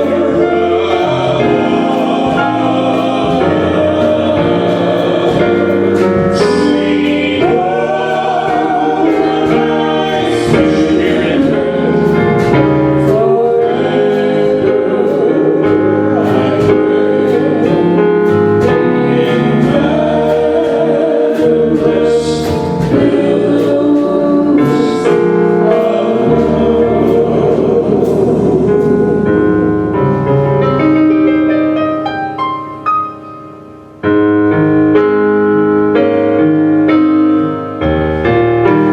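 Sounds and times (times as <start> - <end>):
gospel choir singing: 0.0 - 33.0.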